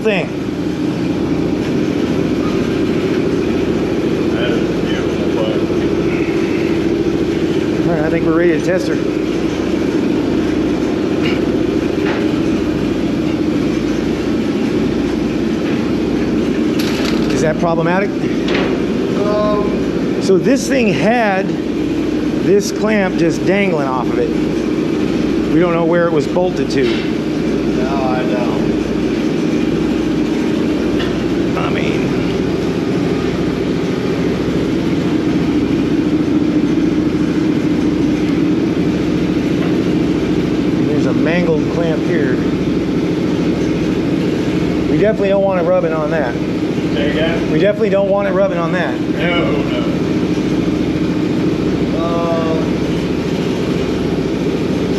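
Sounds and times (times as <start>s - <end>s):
engine-room machinery drone: 0.0s - 54.9s.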